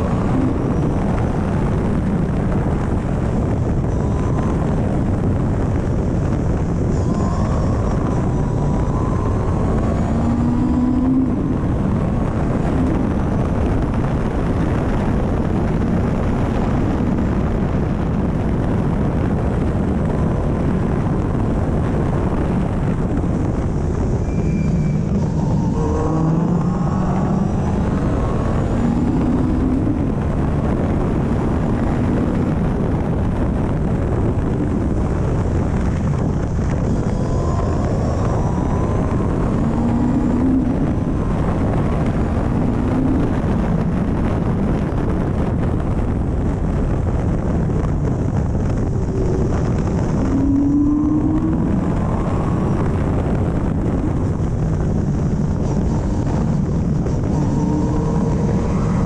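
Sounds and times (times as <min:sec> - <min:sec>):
car engine accelerating: 0:00.0 - 0:59.0
wind rush: 0:00.0 - 0:59.0.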